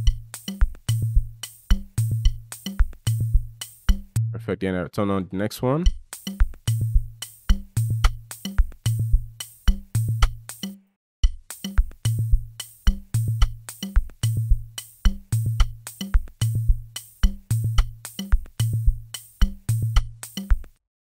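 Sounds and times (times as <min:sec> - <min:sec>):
hi-hat ticks: 0:00.0 - 0:04.2, 0:05.8 - 0:20.8
deep kick drum: 0:00.0 - 0:04.4, 0:05.8 - 0:10.5, 0:11.2 - 0:20.6.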